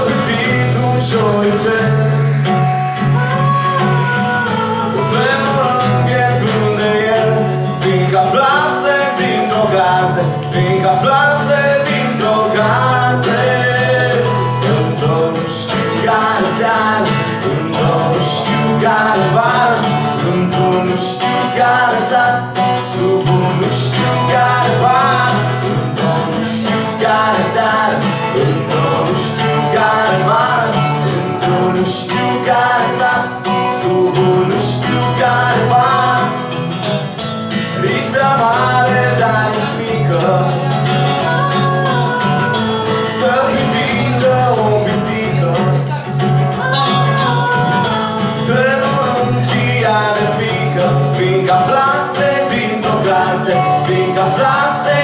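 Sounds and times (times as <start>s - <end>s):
woman singing: 0.0s - 36.5s, 37.8s - 55.0s
electric guitar: 0.0s - 55.0s
strummed acoustic guitar: 0.0s - 55.0s.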